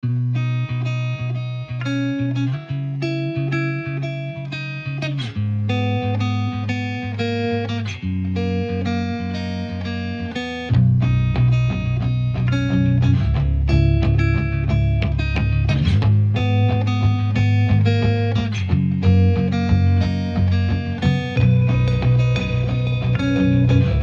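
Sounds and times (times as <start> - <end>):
plucked guitar music: 0.0 - 24.0.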